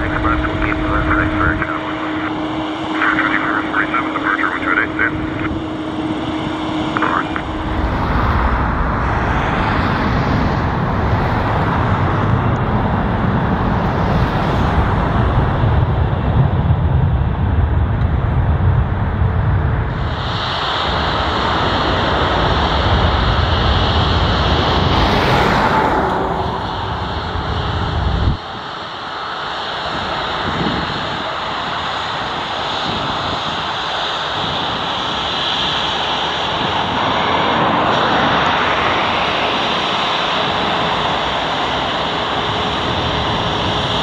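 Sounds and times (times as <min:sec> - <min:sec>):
high jet engine whine: 0:00.0 - 0:44.0
jet engine rumble: 0:00.0 - 0:44.0.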